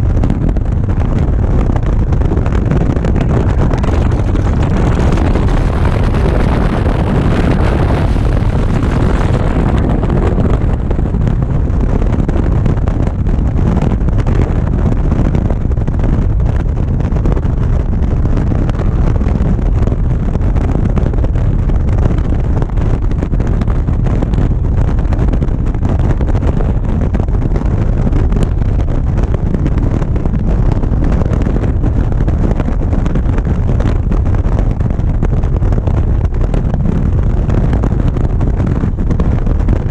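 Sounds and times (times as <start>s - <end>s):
motorcycle running: 0.0s - 39.9s
wind buffeting microphone: 0.0s - 39.9s.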